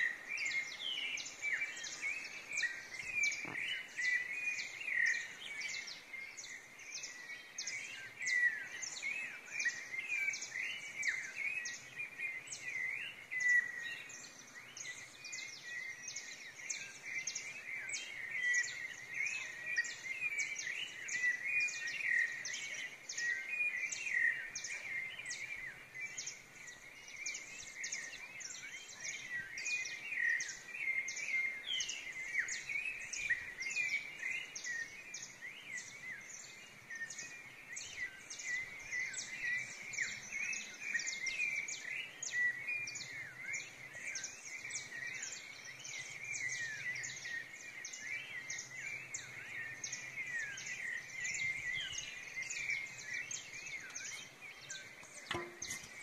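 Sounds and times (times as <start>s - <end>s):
birds chirping and whistling: 0.0s - 56.0s.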